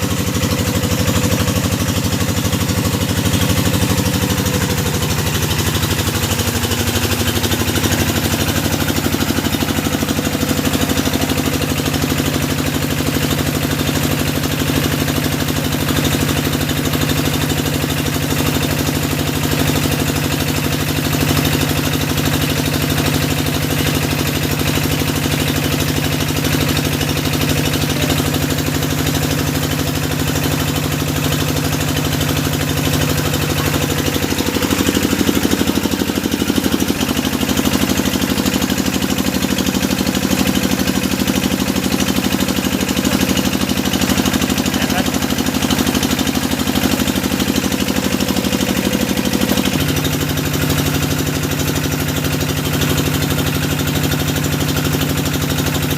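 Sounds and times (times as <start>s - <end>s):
drilling rig engine running: 0.0s - 55.9s.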